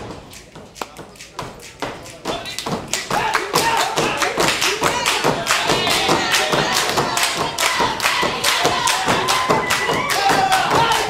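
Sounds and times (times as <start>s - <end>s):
hand claps: 0.0s - 11.0s.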